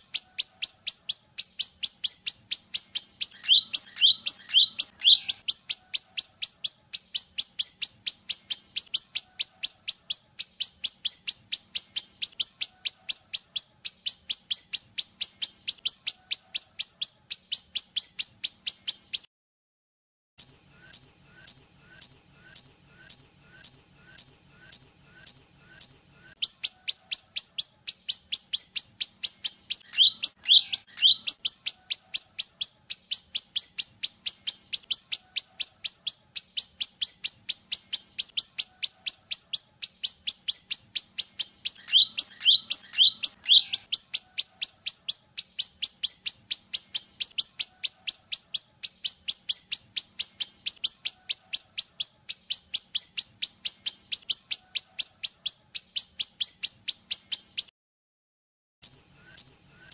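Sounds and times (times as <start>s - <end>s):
bird whistles and chirps: 0.0s - 19.3s, 20.4s - 57.7s, 58.8s - 59.9s
low bird chatter: 0.0s - 19.3s, 20.4s - 57.7s.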